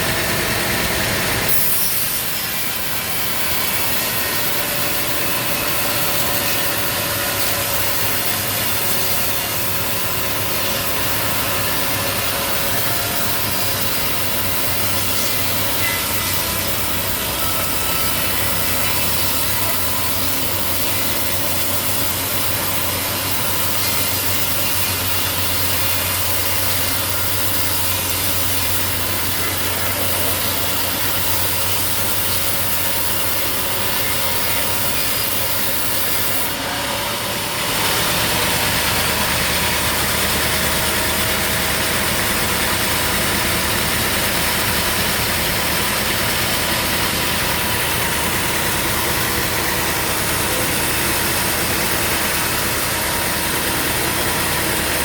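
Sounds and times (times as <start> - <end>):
saw cutting through log: 0.0 - 55.0.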